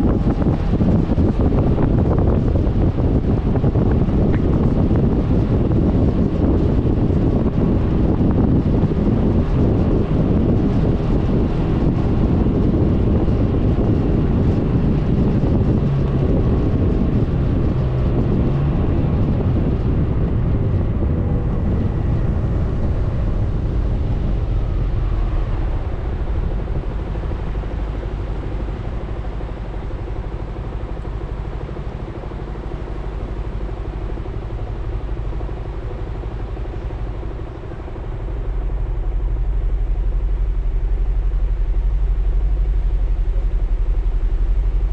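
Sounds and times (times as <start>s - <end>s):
road noise: 0.0s - 44.9s
scooter engine drone: 0.0s - 44.9s
wind rushing over microphone: 0.0s - 44.9s.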